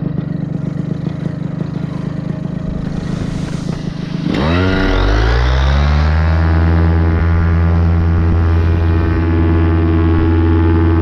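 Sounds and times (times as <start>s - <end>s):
paramotor engine idling and revving: 0.0s - 11.0s.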